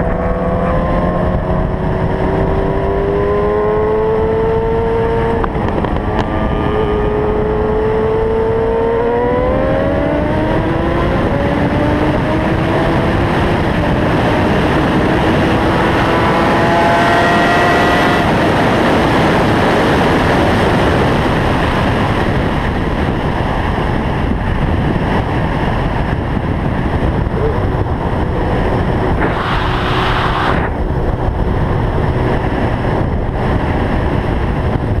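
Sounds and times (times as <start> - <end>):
motorcycle engine accelerating: 0.0 - 35.0
wind rush: 0.0 - 35.0.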